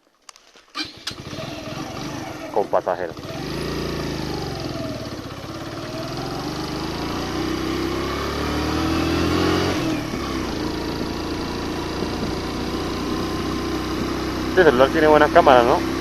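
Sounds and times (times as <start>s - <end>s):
motorcycle engine revving uphill: 0.8s - 16.0s.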